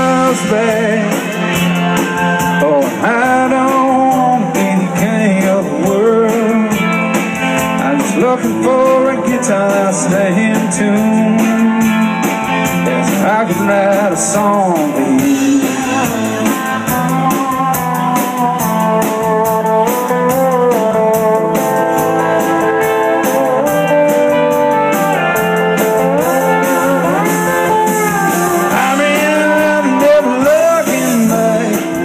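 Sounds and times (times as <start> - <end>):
country band backing: 0.0 - 32.0
lead guitar sliding notes: 0.0 - 32.0.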